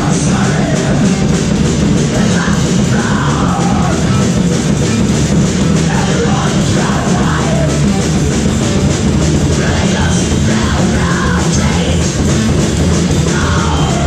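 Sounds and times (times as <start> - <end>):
bass guitar: 0.0 - 14.0
distorted electric guitars: 0.0 - 14.0
drum kit with cymbals: 0.0 - 14.0
vocals: 0.0 - 14.0.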